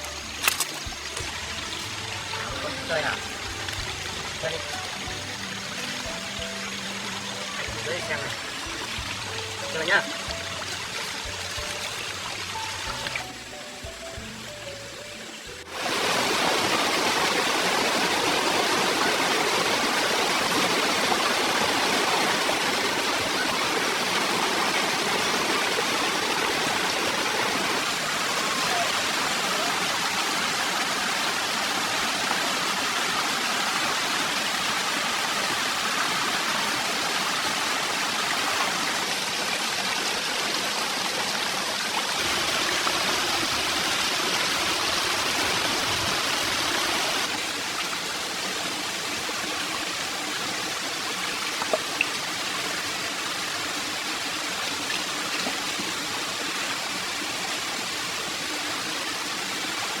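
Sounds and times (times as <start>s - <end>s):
stream water rushing: 0.0s - 60.0s.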